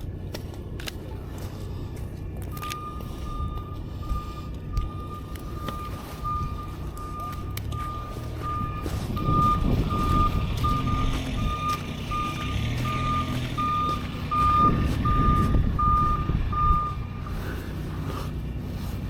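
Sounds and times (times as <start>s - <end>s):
engine rumbling: 0.0s - 19.0s
reversing alarm beeping: 1.8s - 17.4s.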